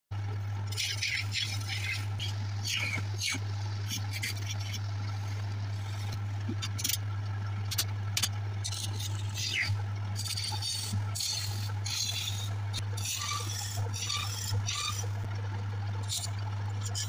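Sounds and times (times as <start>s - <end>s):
wood lathe humming: 0.5s - 17.0s
gouge scraping spinning wood: 0.6s - 15.3s, 16.0s - 17.0s.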